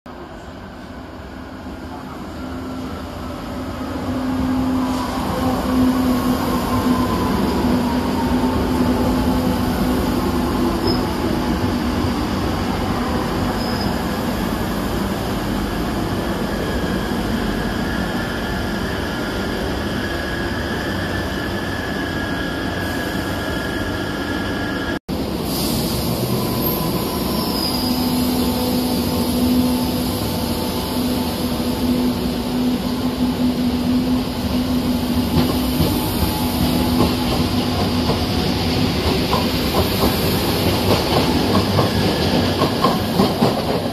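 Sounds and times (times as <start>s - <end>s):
train rumbling on rails: 0.1s - 43.9s.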